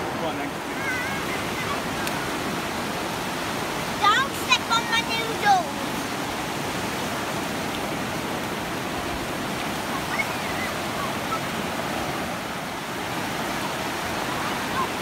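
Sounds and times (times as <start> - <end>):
waves washing up a beach: 0.0 - 15.0.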